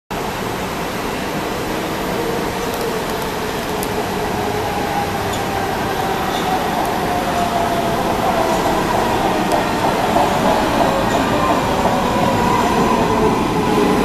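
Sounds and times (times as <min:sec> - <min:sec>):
train rushing noise: 0:00.2 - 0:14.0.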